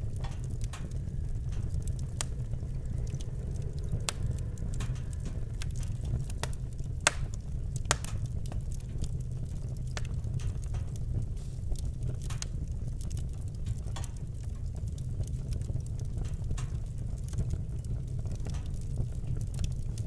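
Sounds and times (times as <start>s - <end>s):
steady low rumble: 0.0s - 20.0s
wood fire crackling and popping: 0.0s - 20.0s.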